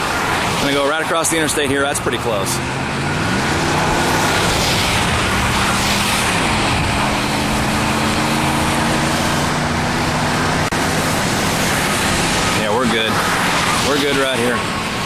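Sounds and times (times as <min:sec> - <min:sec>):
car engine running: 0:00.0 - 0:15.0
road and wind noise: 0:00.0 - 0:15.0.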